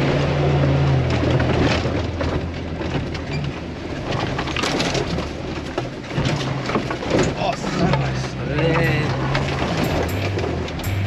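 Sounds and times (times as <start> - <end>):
gravel crunching under tyres: 0.0 - 11.0
off-road vehicle engine running: 0.0 - 11.0.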